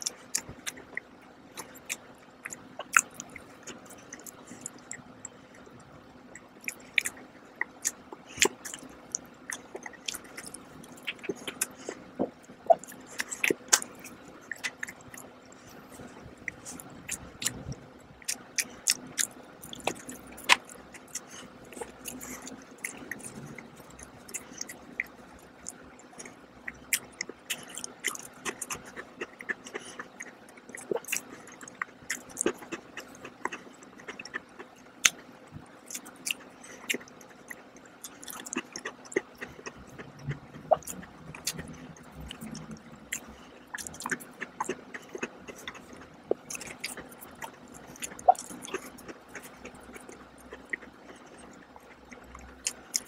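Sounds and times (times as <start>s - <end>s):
crunchy cookie chewing: 0.0s - 53.0s.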